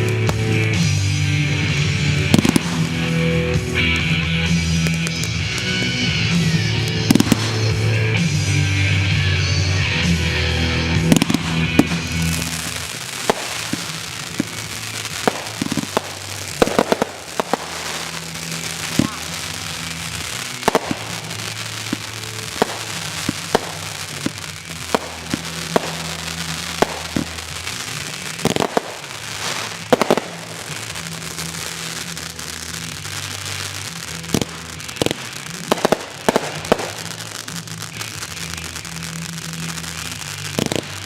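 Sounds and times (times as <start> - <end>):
fireworks bangs: 0.0 - 8.6, 10.0 - 41.0
crackling hiss: 0.0 - 8.7, 10.1 - 41.0.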